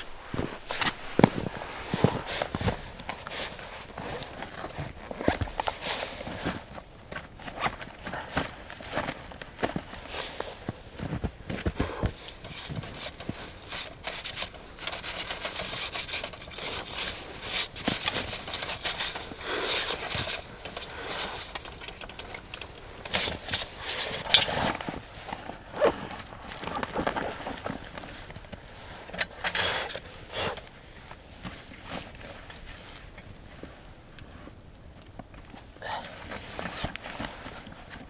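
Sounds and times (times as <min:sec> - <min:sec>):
gear being handled: 0:00.0 - 0:30.6.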